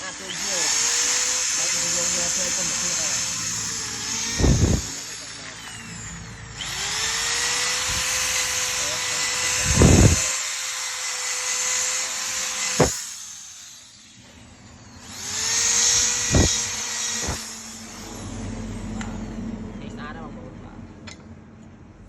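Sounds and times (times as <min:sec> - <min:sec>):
electric motor whining: 0:00.0 - 0:19.5.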